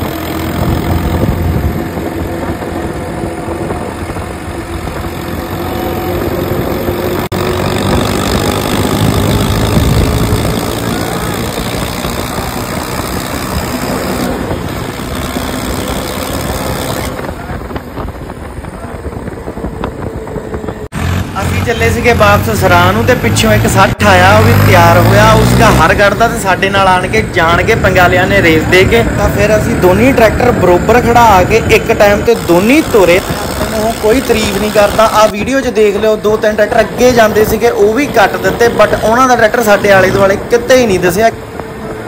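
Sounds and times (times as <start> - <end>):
diesel tractor engine revving: 0.0 - 42.0.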